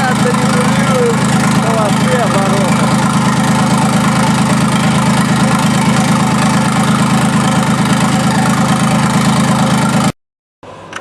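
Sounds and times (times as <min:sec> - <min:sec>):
diesel engine idling: 0:00.0 - 0:10.1.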